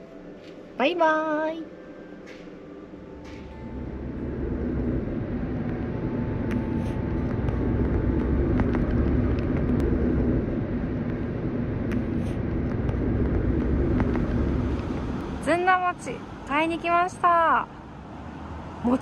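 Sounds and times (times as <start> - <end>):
car engine and road noise: 1.7 - 19.0.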